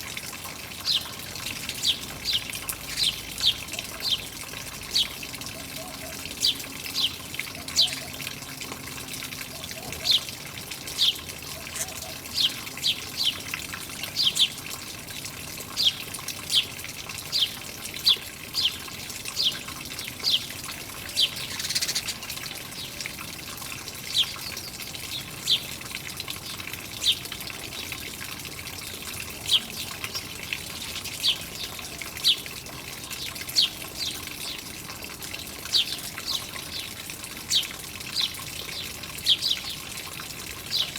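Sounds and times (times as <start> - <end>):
trickling water: 0.0 - 40.9
small birds chirping: 0.8 - 8.4, 9.6 - 23.2, 24.0 - 25.8, 26.4 - 28.0, 29.3 - 32.5, 33.2 - 34.7, 35.6 - 40.0, 40.6 - 40.9.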